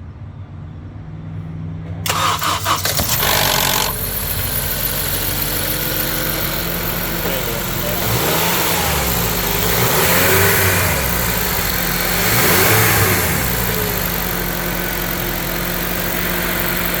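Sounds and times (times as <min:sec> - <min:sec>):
car engine revving and idling: 0:02.1 - 0:17.0.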